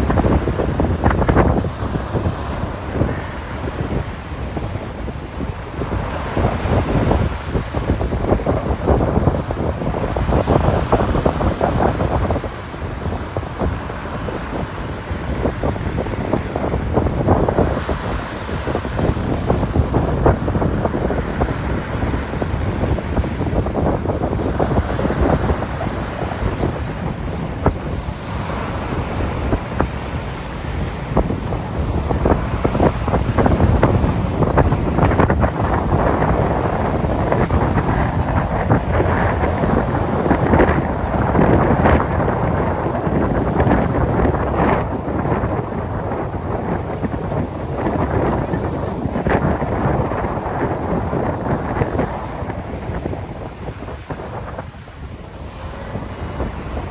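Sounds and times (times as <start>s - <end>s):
small waves breaking: 0.0s - 56.9s
wind buffeting microphone: 0.0s - 56.9s.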